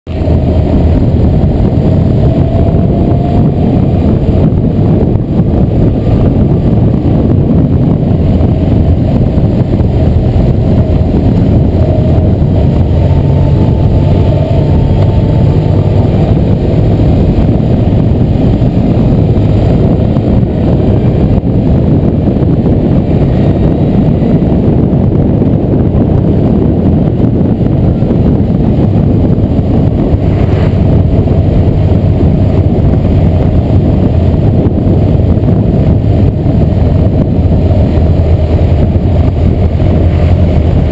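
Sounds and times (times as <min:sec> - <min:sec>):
motorcycle engine drone: 0:00.0 - 0:40.9
road noise: 0:00.0 - 0:40.9
wind noise: 0:00.0 - 0:40.9.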